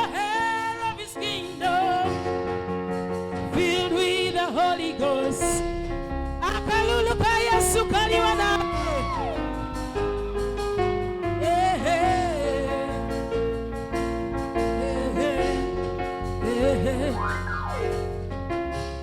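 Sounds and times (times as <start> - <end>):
gospel music: 0.0 - 19.0.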